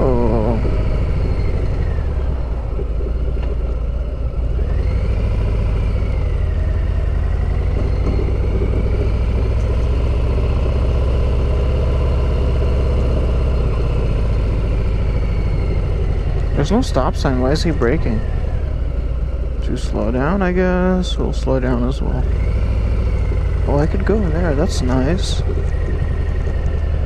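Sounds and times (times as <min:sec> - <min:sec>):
faint whine: 0:00.0 - 0:27.0
motorcycle engine rumbling: 0:00.0 - 0:27.0.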